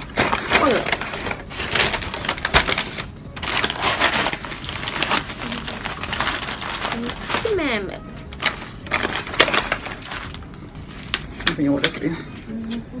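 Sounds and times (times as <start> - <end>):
paper bag crinkling: 0.0 - 12.2.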